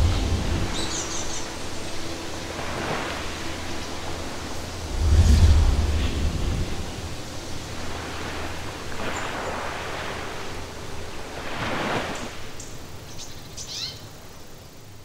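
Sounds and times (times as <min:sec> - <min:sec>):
ocean surf washing in: 0:00.0 - 0:13.0.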